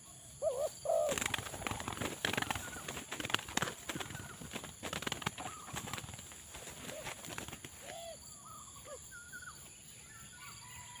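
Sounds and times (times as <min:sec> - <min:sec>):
doves cooing: 0:00.0 - 0:09.5
small birds chirping: 0:00.0 - 0:11.0.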